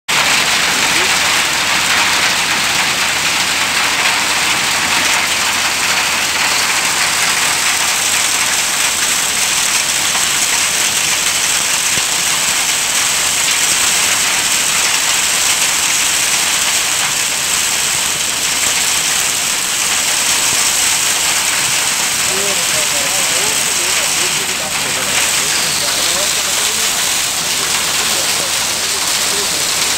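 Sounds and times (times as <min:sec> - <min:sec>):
hail and heavy rain pelting: 0:00.1 - 0:29.9.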